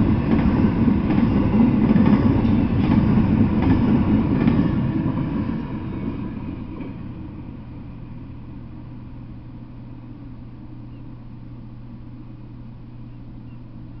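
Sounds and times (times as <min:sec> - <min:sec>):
freight train rumble: 0:00.0 - 0:14.0
steady low hum: 0:00.0 - 0:14.0.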